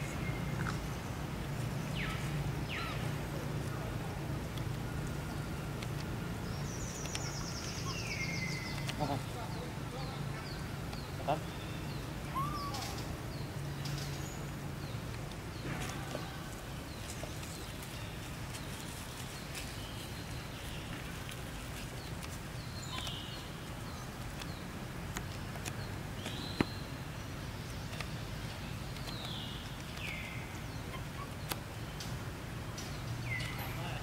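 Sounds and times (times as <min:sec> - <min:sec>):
low background noise: 0:00.0 - 0:34.0.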